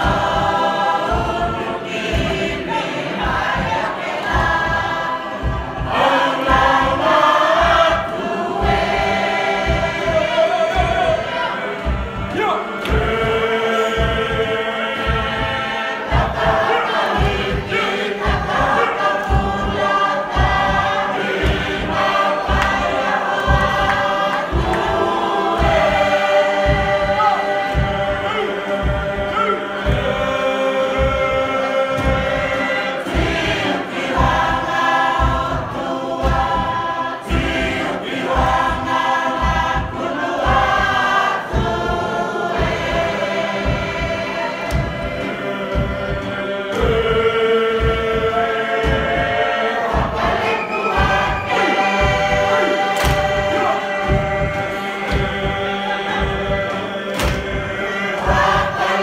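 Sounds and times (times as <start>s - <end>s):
group singing in chorus: 0.0s - 59.0s
steady low beat: 0.0s - 59.0s.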